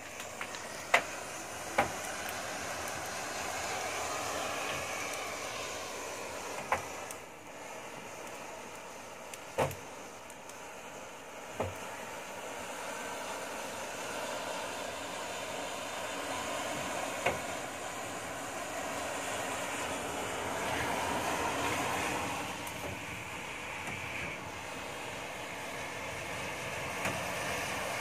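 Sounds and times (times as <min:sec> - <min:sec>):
hiss of burning matches: 0:00.0 - 0:28.0.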